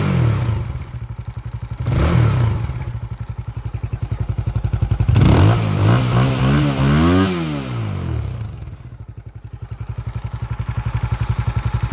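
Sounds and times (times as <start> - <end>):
motorcycle engine revving and idling: 0.0 - 11.9.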